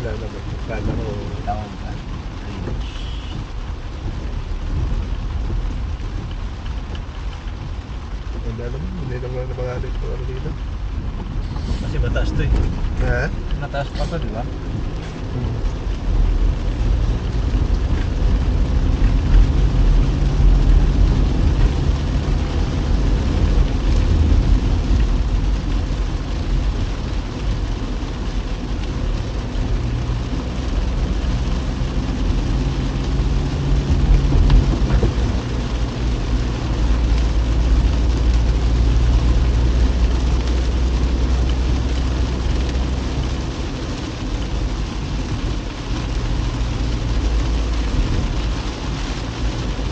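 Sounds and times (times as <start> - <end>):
car engine drone: 0.0 - 49.9
rain: 0.0 - 49.9.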